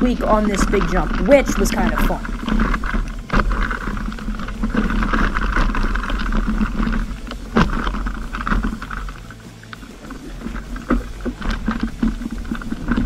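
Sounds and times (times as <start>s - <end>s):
bike rattling: 0.0s - 13.0s
tyres running over dirt: 0.0s - 13.0s.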